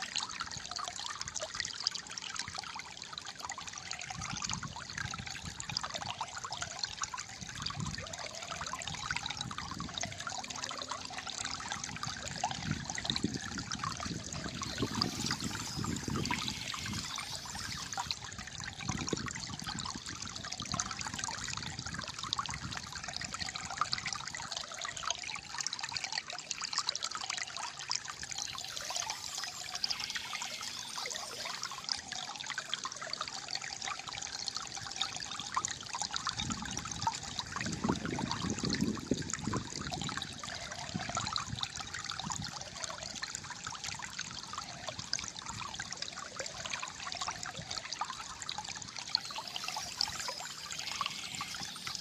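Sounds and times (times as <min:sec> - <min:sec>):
water trickling and gurgling: 0:00.0 - 0:52.0.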